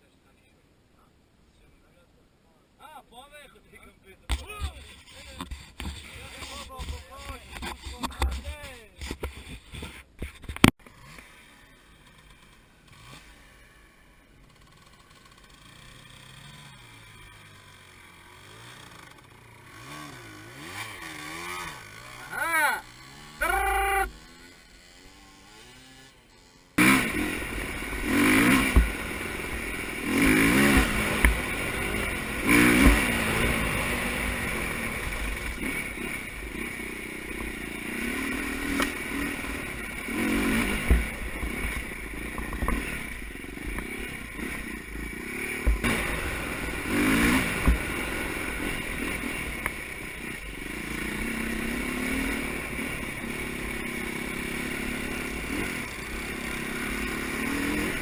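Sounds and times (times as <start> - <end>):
dirt bike engines revving: 3.5 - 58.0.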